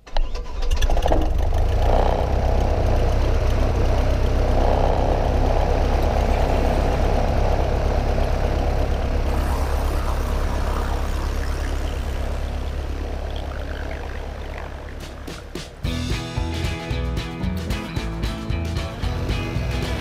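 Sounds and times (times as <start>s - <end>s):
light aircraft engine idling: 1.1s - 17.2s.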